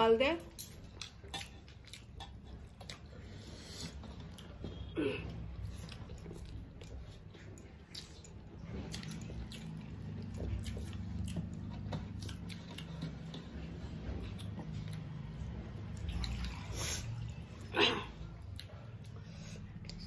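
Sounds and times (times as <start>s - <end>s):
people chewing: 0.5s - 20.0s.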